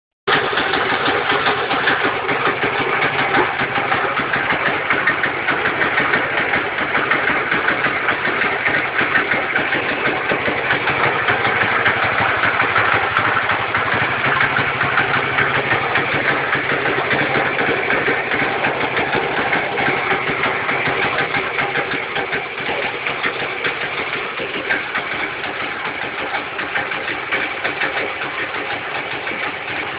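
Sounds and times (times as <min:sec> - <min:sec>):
motorcycle engine idling: 0:00.3 - 0:29.9.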